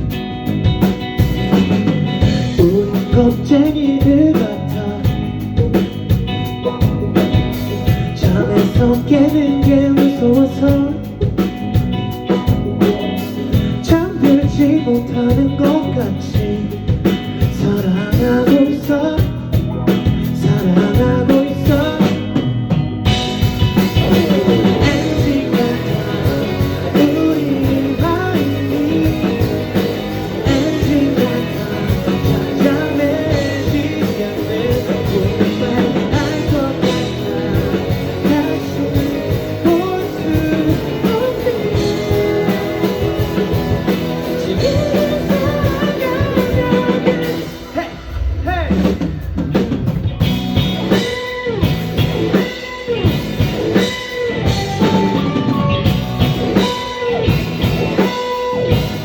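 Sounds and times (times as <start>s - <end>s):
rock band with singer: 0.0s - 59.0s.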